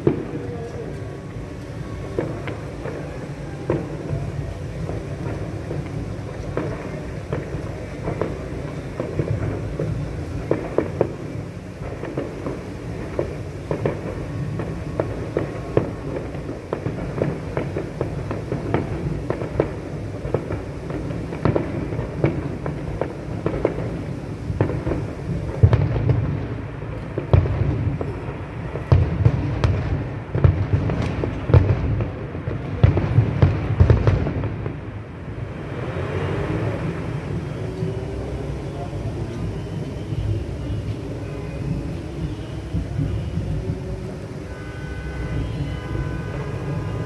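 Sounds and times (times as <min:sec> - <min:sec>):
fireworks heavy booms: 0:00.0 - 0:47.0
fireworks pops and cracks: 0:00.0 - 0:47.0.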